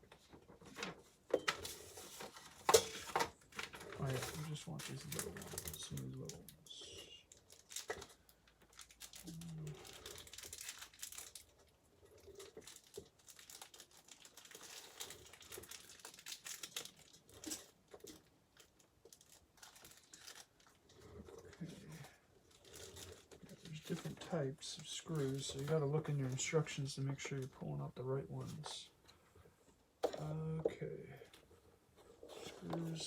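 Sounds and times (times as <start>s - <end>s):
plastic packaging crinkling: 0.5s - 28.8s.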